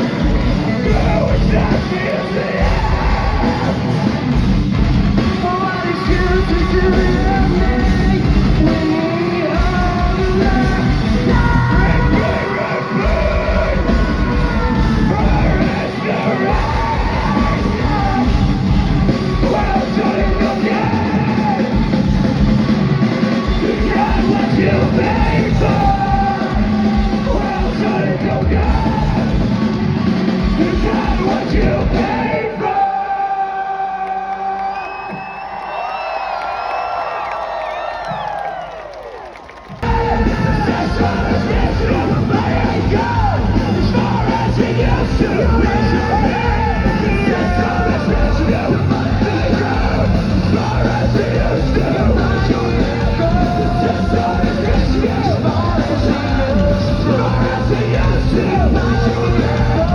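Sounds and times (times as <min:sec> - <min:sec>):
loud drums: 0:00.0 - 0:33.2, 0:39.2 - 0:59.9
rock band playing live: 0:00.0 - 0:34.6, 0:39.8 - 0:59.9
electric guitars: 0:00.0 - 0:34.8, 0:39.6 - 0:59.9
sung and yelled vocals: 0:00.0 - 0:59.9.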